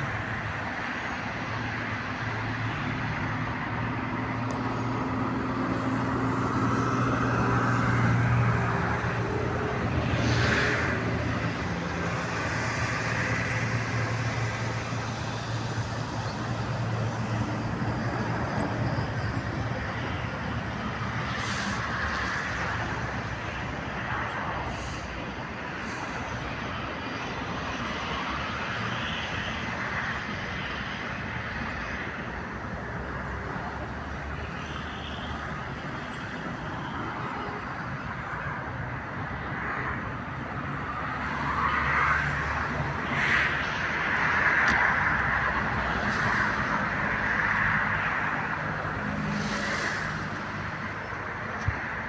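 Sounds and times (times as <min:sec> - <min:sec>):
road traffic engine hum: 0:00.0 - 0:52.0.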